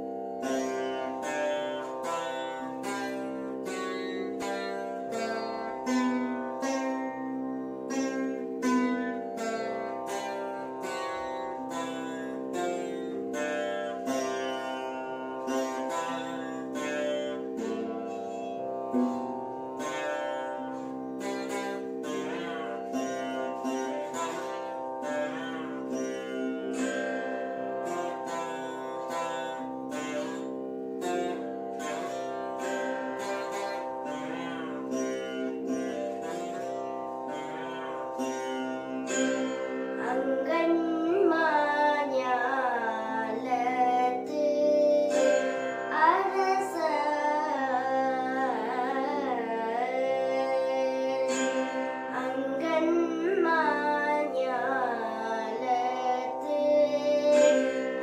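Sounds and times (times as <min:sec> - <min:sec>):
plucked veena melody: 0:00.0 - 0:58.0.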